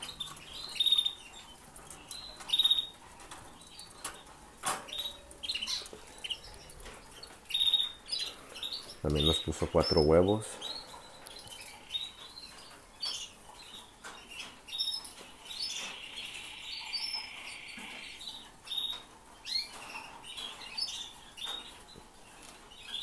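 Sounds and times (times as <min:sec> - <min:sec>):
canaries chirping: 0:00.0 - 0:23.0.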